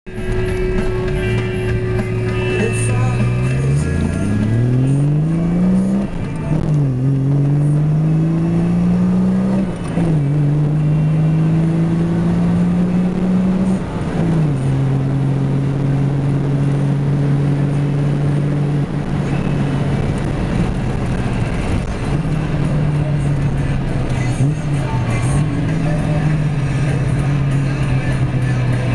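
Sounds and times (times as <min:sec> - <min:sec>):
car engine accelerating: 0:00.1 - 0:28.9.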